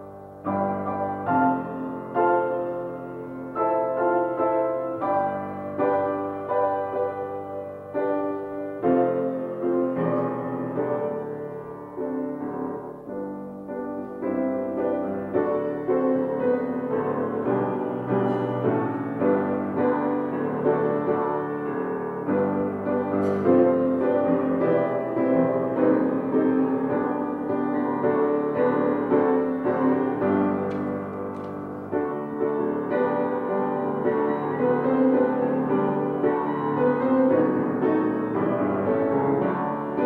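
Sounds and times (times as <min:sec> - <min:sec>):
slow gentle piano piece: 0:00.0 - 0:40.0.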